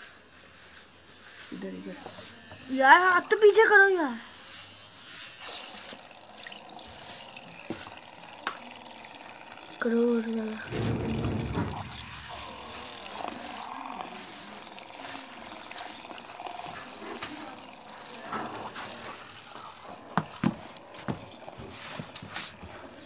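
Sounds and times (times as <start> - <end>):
mini grinder grinding: 0.8 - 10.8, 11.8 - 23.0.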